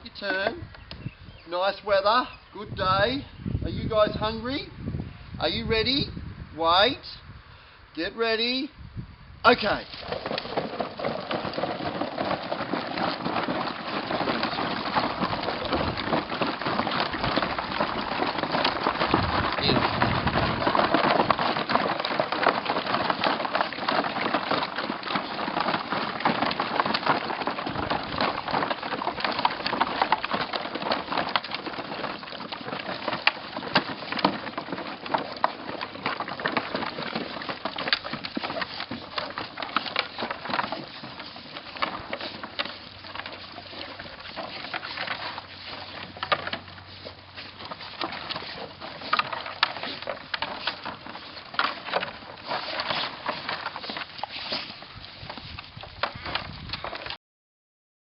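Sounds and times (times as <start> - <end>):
dogs crunching food: 9.9 - 57.2.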